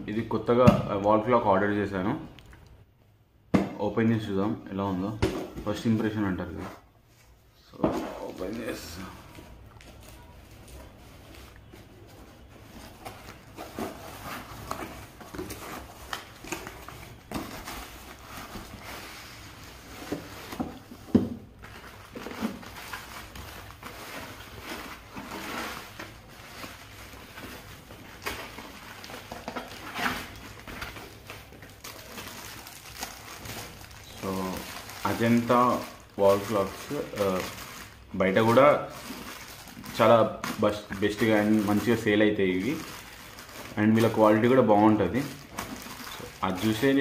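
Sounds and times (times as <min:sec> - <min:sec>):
plastic wrap rustling: 0:05.4 - 0:47.0
cardboard parcel being opened: 0:07.8 - 0:47.0.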